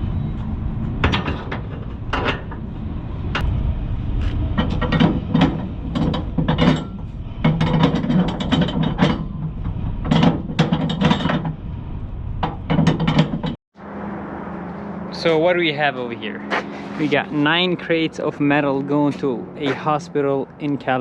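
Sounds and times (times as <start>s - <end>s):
low steady rumble: 0.0s - 18.8s.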